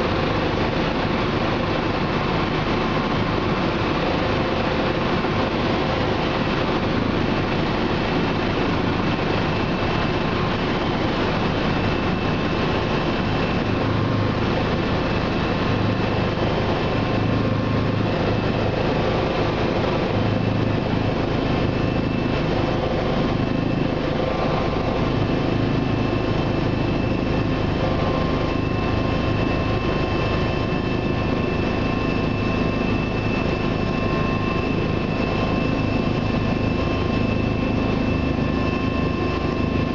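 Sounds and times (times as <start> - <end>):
helicopter engine and rotor drone: 0.0 - 39.9
steady whining tones: 0.0 - 39.9.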